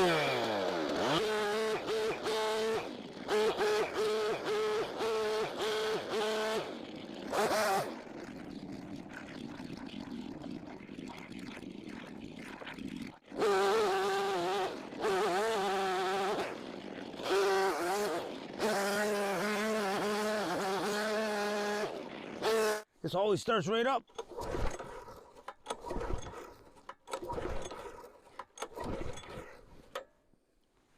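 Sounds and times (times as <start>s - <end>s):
small gas engine buzzing: 0.0s - 22.9s, 24.1s - 30.0s.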